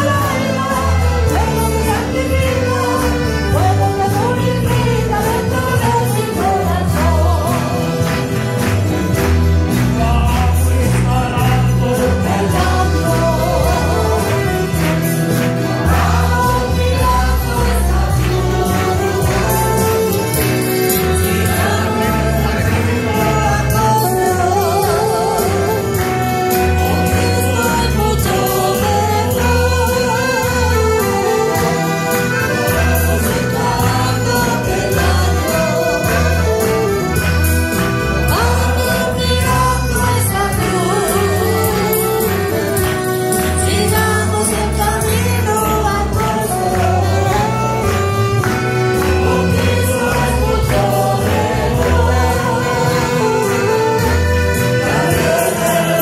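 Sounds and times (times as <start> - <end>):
chorus singing through microphones: 0.0 - 8.6, 10.0 - 56.0
piano accordion: 0.0 - 56.0
rhythmic bass beat: 0.0 - 56.0
saxophone: 0.0 - 56.0.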